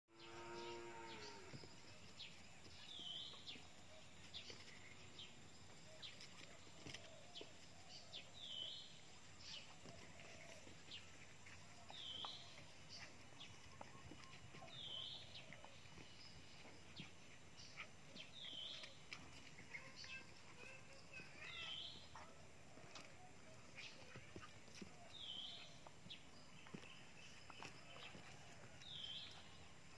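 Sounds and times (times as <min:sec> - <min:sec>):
faint high bird chirp: 0:00.1 - 0:29.7.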